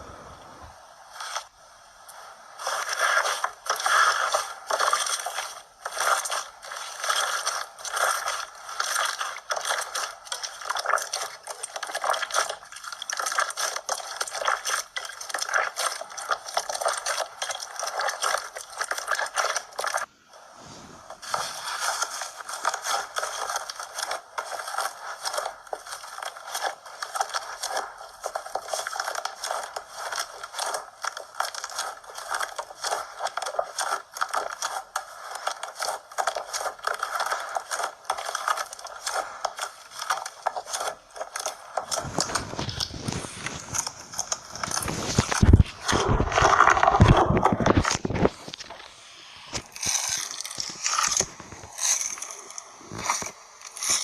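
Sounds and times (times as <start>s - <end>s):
slime squishing and popping: 2.6s - 20.1s, 21.1s - 48.8s, 49.5s - 54.0s.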